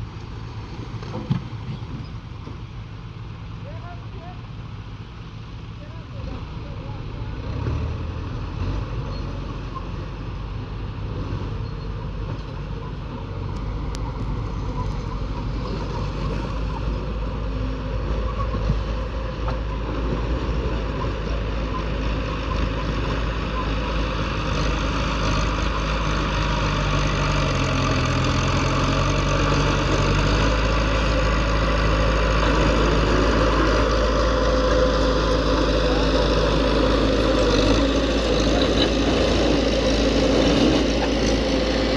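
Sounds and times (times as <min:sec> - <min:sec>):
diesel machinery engines running: 0:00.0 - 0:41.9.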